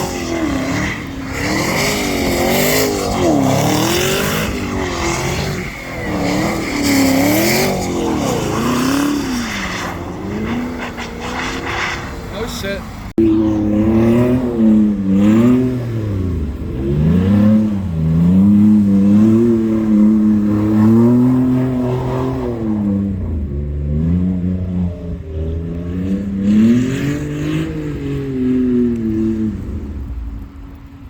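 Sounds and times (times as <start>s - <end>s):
car engine revving hard: 0.0s - 30.5s.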